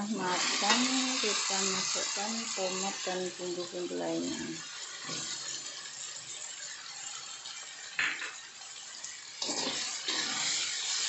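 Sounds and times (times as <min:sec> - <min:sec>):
paste sizzling in a wok: 0:00.0 - 0:11.0.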